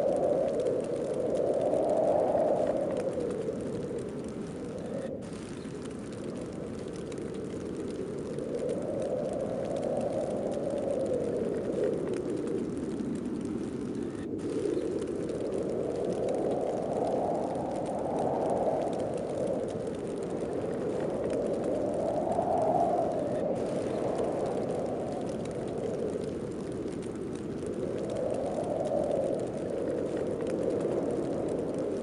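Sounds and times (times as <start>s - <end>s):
snowstorm wind gusting: 0.0s - 32.0s.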